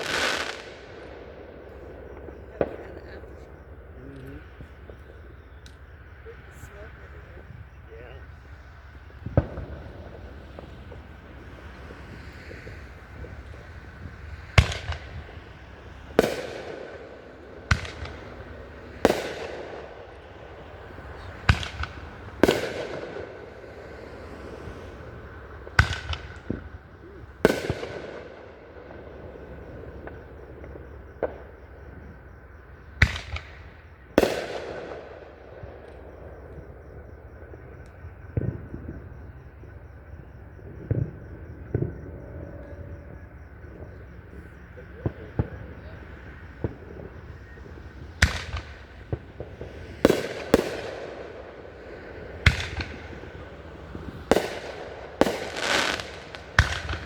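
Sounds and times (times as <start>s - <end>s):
fireworks bangs: 0.0s - 57.0s
fireworks rumble: 0.0s - 57.0s.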